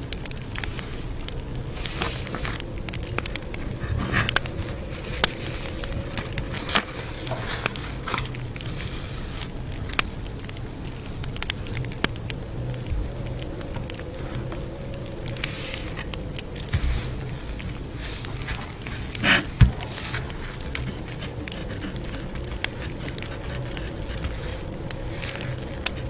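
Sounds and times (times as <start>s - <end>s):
campfire crackling: 0.0s - 26.0s
low rumble of burning wood: 0.0s - 26.0s.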